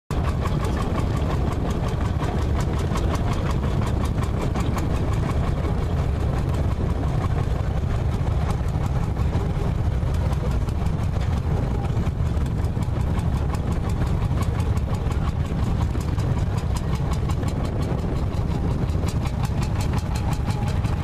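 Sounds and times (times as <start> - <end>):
tractor engine knocking: 0.1 - 21.0.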